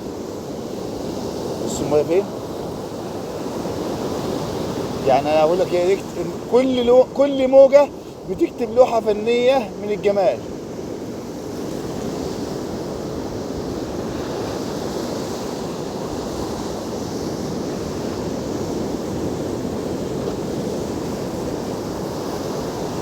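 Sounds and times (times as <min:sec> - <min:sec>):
waves breaking: 0:00.0 - 0:23.0.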